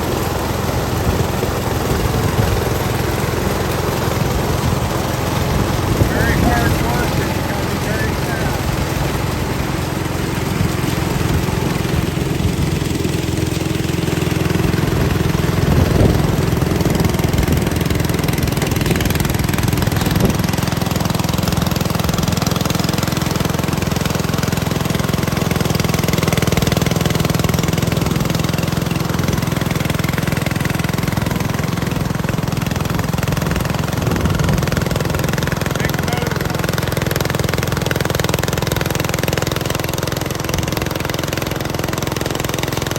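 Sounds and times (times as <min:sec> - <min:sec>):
small engine running steadily: 0:00.0 - 0:42.9.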